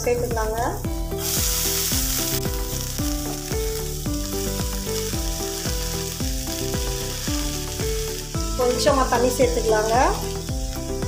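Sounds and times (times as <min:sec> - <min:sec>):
background music with steady beat: 0:00.0 - 0:11.0
cabbage sizzling in a hot pan: 0:00.1 - 0:11.0.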